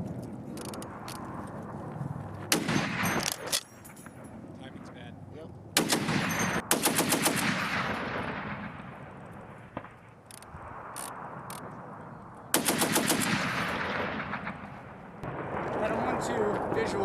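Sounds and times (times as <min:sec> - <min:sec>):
rolling gunfire echo: 0:00.8 - 0:05.1, 0:05.8 - 0:17.0.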